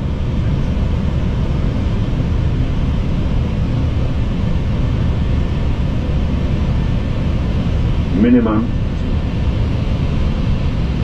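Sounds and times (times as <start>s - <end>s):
airflow and engine rumble: 0.0s - 11.0s.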